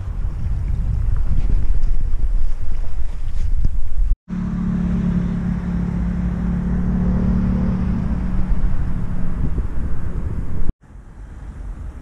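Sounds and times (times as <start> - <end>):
wind rumbling on microphone: 0.0 - 4.2, 5.2 - 12.0.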